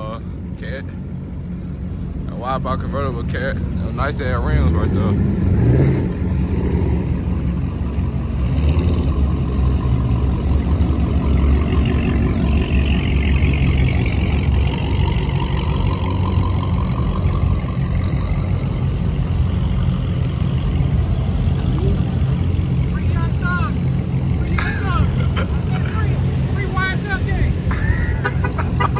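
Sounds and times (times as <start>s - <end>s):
car engines idling: 0.0s - 28.9s
engine note gliding in pitch: 3.6s - 28.9s.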